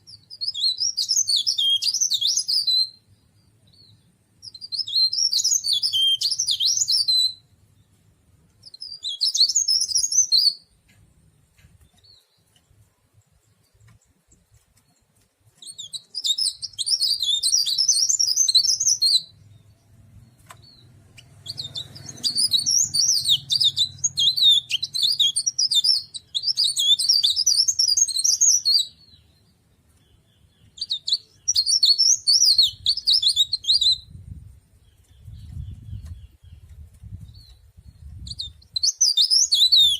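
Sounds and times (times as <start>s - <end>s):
leaf warbler singing: 0.0s - 39.9s.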